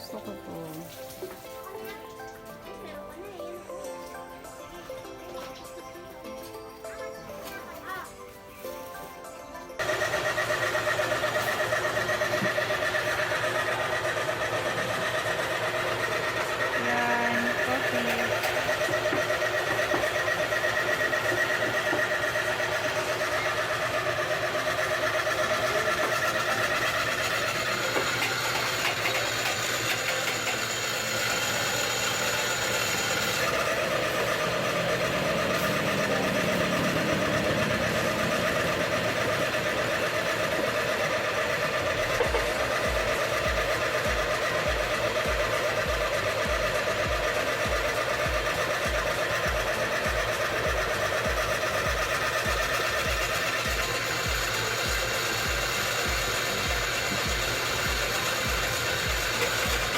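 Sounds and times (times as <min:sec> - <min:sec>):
motor hum: 0:00.0 - 0:59.9.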